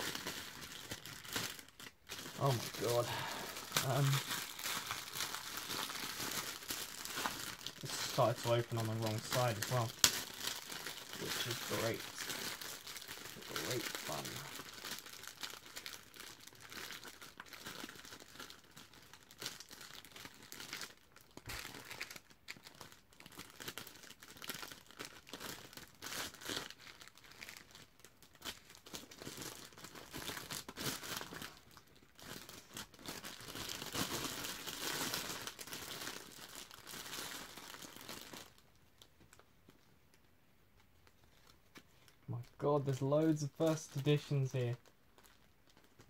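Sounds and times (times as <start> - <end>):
plastic bag crinkling: 0.0 - 40.1, 40.7 - 46.0.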